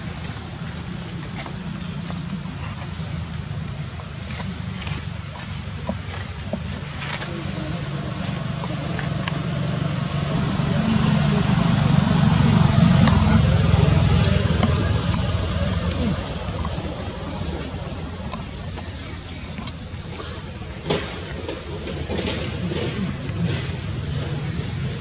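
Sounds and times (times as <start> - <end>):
passing vehicle rumble: 0.0 - 25.0.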